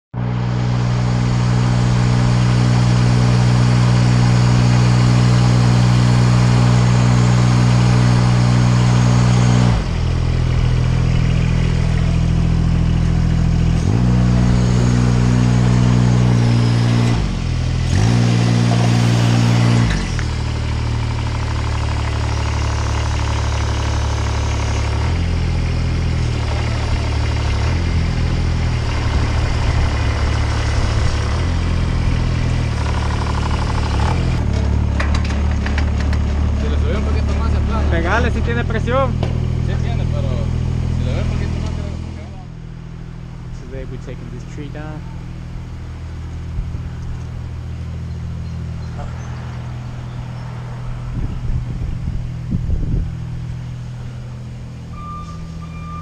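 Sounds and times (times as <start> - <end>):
lift engine running: 0.2 - 56.0.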